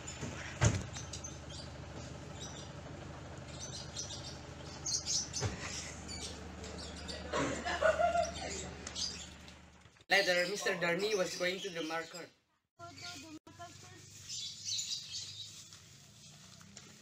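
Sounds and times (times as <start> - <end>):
small birds chirping: 0.9 - 16.5.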